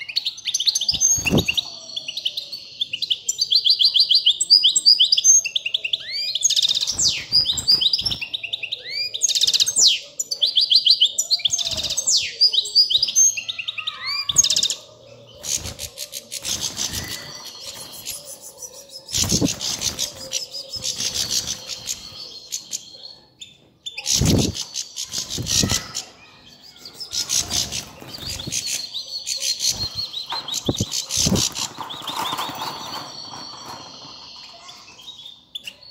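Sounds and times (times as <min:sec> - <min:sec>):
finches singing and twittering: 0:00.0 - 0:35.9.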